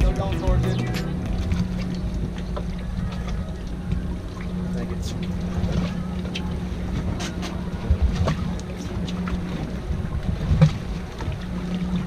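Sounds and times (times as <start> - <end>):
outboard engines idling: 0.0 - 10.2.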